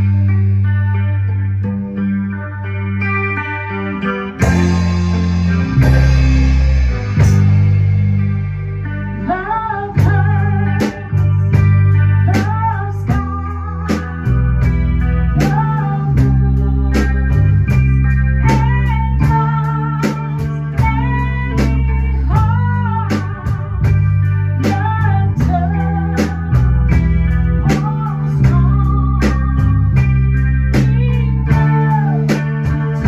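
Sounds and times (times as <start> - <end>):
bass and drums: 0.0 - 33.0
blues guitar lead: 0.0 - 33.0.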